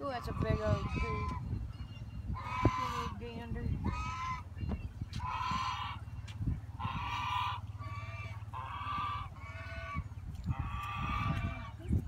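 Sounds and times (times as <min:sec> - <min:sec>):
goose honking: 0:00.0 - 0:01.4, 0:02.3 - 0:11.9.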